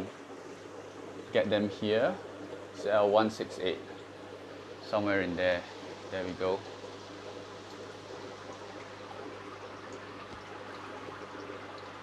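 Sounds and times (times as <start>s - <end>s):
low steady hum: 0.0s - 12.0s
trickling water: 0.0s - 12.0s.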